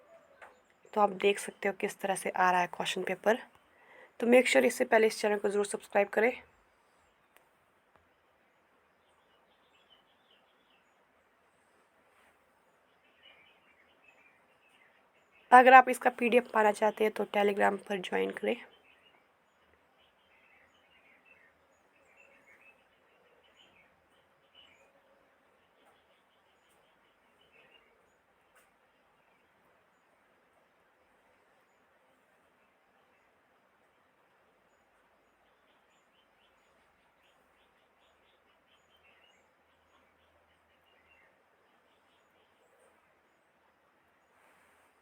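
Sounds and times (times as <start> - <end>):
faint bird chirps: 0.0 - 1.1, 6.4 - 15.6, 18.2 - 45.0
faint background hiss: 0.0 - 45.0.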